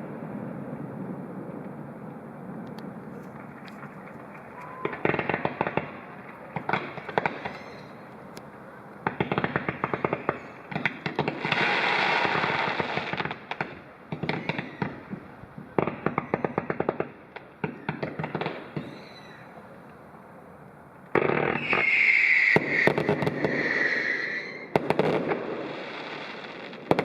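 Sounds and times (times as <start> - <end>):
fireworks hissing crackle: 0.0 - 27.0
fireworks cracks and pops: 1.4 - 19.2, 21.0 - 27.0.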